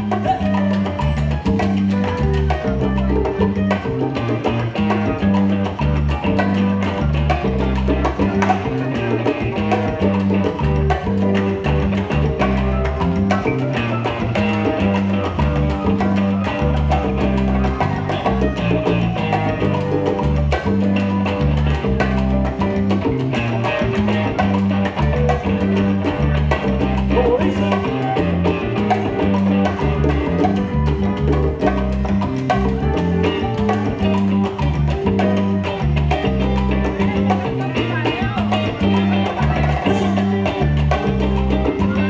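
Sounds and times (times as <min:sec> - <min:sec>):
bass line: 0:00.0 - 0:42.0
salsa dance music: 0:00.0 - 0:42.0.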